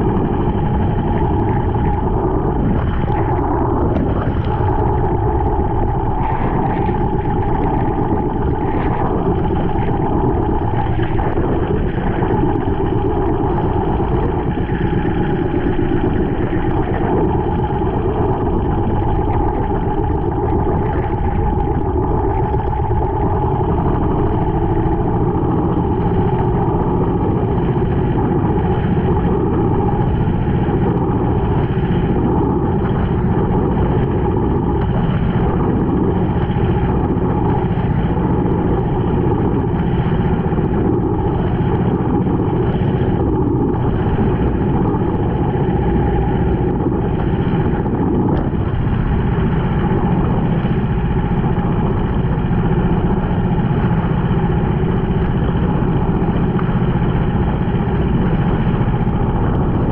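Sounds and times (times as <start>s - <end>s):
boat engine running: 0.0s - 59.9s
water rushing along hull: 0.0s - 59.9s.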